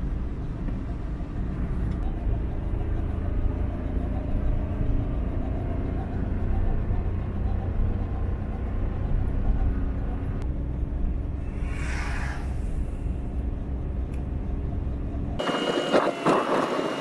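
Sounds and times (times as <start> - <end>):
car cabin engine and tyre rumble: 0.0 - 17.0.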